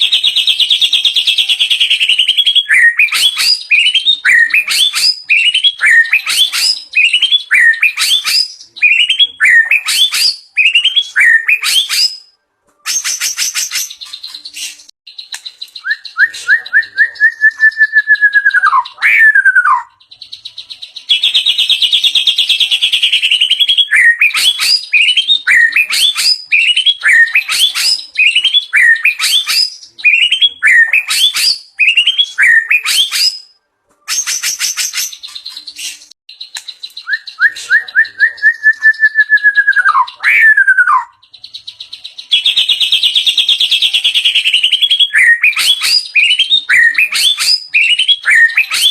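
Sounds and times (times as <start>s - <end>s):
bird singing varied song: 0.0s - 48.9s.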